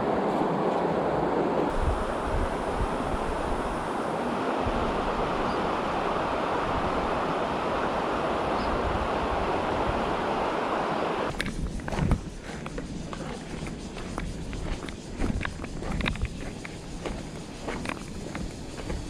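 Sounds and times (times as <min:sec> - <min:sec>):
wind rumble on microphone: 0:01.6 - 0:19.0.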